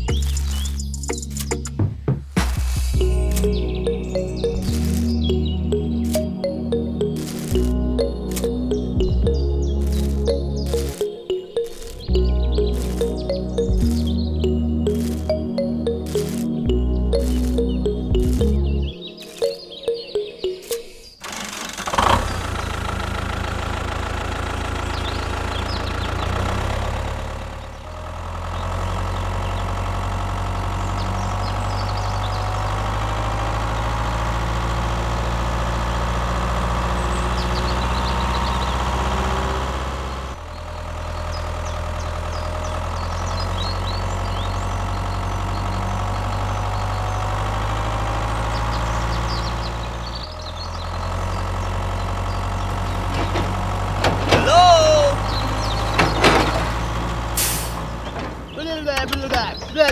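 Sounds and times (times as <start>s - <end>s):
tractor engine idling: 0.0s - 19.5s, 21.2s - 59.9s.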